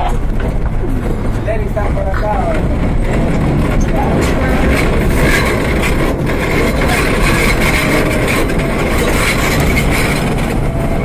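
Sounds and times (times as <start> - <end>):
high steady whine: 0.0 - 11.0
subway train wheels rumbling: 0.0 - 11.0.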